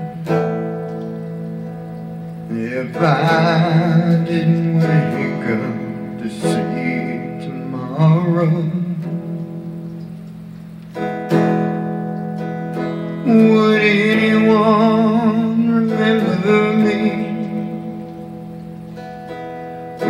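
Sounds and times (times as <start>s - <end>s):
guitar chords ringing: 0.0s - 20.0s.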